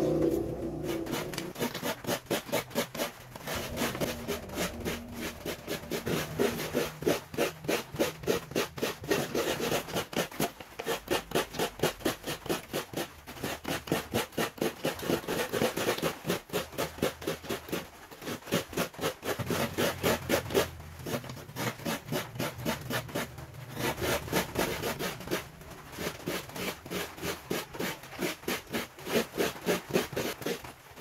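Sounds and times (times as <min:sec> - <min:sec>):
coconut grating rasping strokes: 0:00.0 - 0:30.7.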